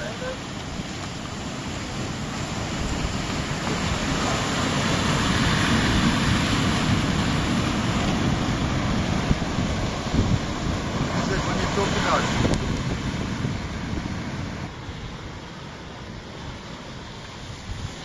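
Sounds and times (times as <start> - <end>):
surf breaking on rocky shore: 0.0 - 18.0.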